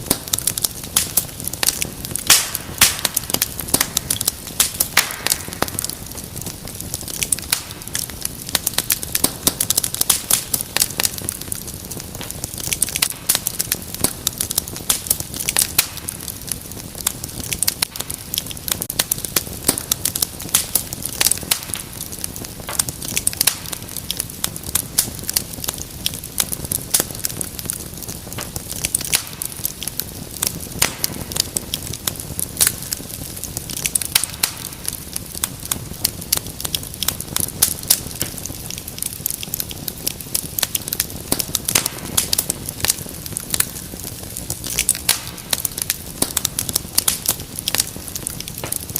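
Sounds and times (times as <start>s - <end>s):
low rumble of flame: 0.0s - 48.9s
wood fire crackling and popping: 0.0s - 48.9s.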